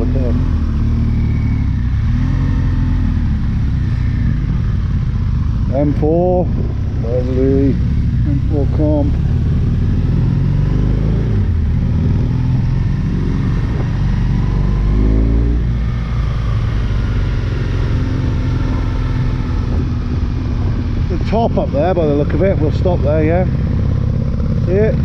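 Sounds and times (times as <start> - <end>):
motorcycle engine revving: 0.0 - 25.0
wind noise: 1.3 - 25.0.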